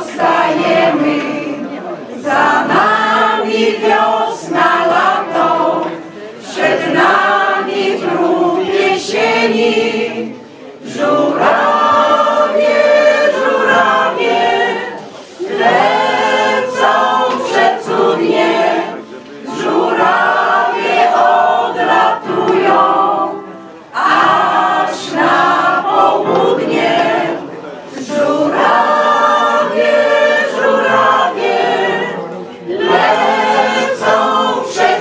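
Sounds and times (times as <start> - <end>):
mixed choir singing: 0.0 - 35.0.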